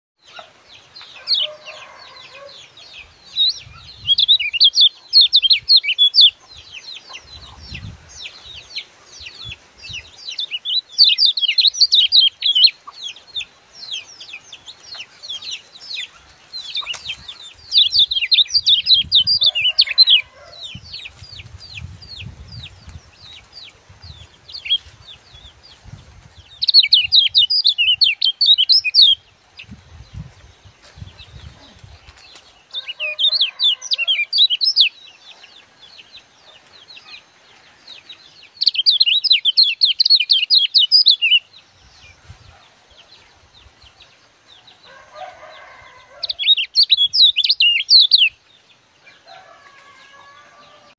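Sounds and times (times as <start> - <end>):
songbird chattering chirps: 0.2 - 25.8, 26.4 - 49.7.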